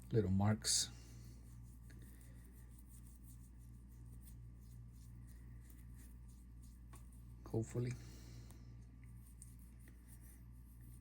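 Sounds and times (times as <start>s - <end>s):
steady low hum: 0.0s - 11.0s
faint rubbing on watch: 0.3s - 11.0s.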